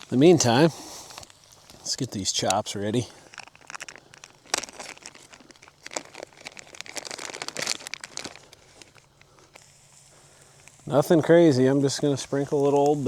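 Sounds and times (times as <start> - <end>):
plastic packaging crinkling and tearing: 0.0 - 13.0.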